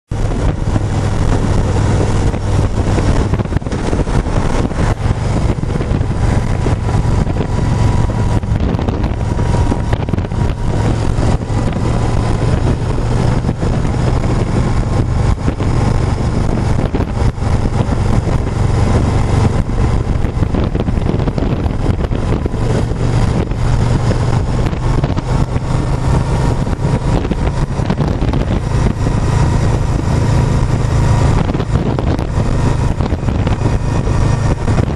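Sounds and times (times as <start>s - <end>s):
motorcycle engine drone: 0.1s - 34.9s
wind noise on microphone: 0.1s - 34.9s.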